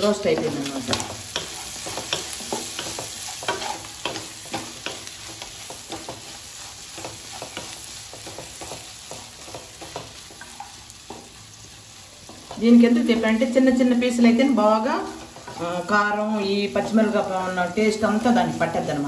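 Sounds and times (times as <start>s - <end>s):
chicken sizzling in oil: 0.0s - 19.0s
spatula scraping a wok: 0.1s - 19.0s.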